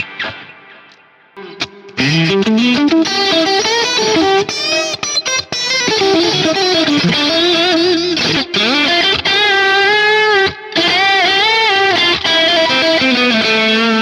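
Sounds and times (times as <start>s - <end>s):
electric guitar lead line: 1.4s - 14.0s.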